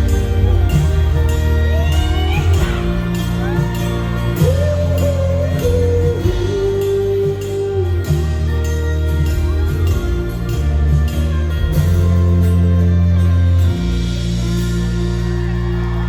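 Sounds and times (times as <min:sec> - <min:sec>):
live country band playing: 0:00.0 - 0:16.0.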